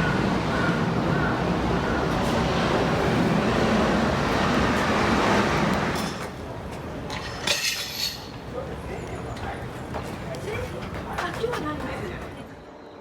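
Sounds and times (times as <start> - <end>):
bus engine and road noise: 0.0 - 12.4.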